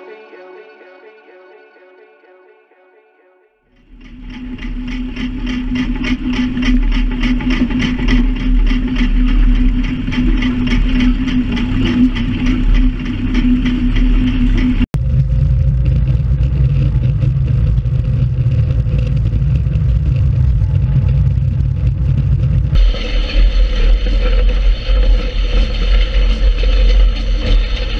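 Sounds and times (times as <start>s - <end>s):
rhythmic clatter: 3.7s - 27.9s
deep engine rumble: 3.8s - 27.9s
diesel engine running under load: 3.8s - 27.9s.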